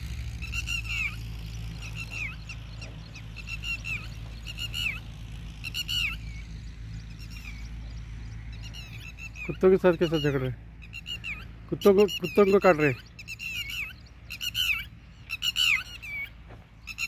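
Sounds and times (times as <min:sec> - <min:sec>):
lapwings shrill alarm calls: 0:00.3 - 0:07.8, 0:08.5 - 0:17.0.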